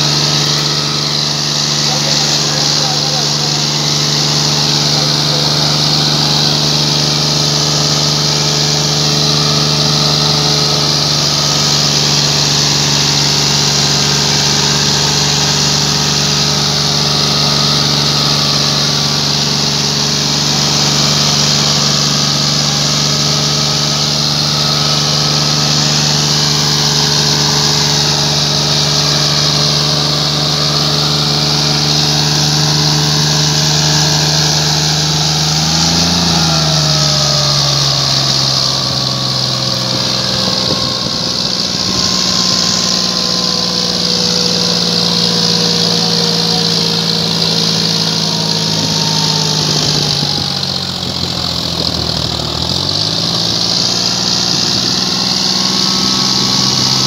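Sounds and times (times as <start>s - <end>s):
diesel tractor engine under load: 0.0s - 57.0s
tyres churning through dirt: 0.0s - 57.0s.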